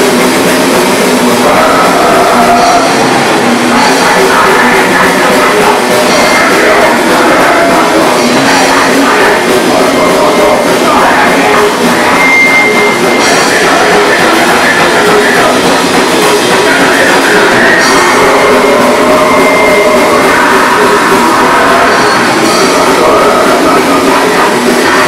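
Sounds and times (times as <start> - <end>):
bass guitar: 0.0 - 25.0
drum kit: 0.0 - 25.0
electric guitar: 0.0 - 25.0.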